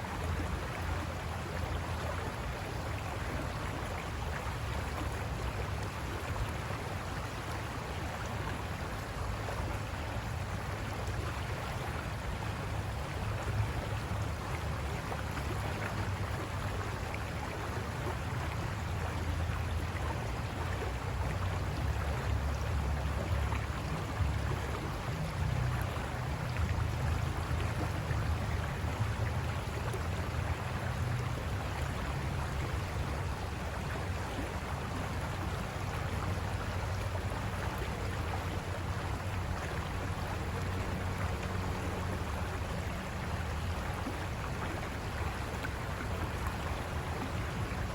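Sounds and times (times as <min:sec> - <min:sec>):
river water rushing over rocks: 0:00.0 - 0:47.9.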